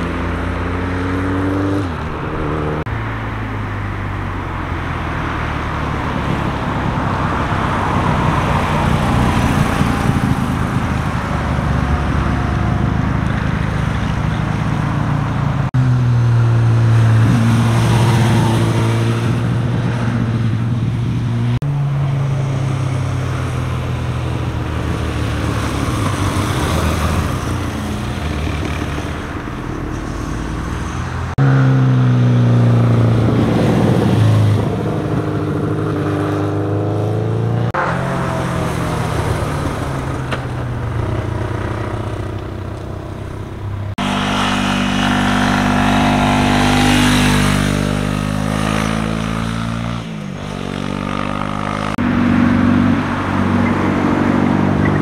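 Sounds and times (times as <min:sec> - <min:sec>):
cars passing: 0:00.0 - 0:55.0
motorcycle engines passing: 0:00.0 - 0:55.0.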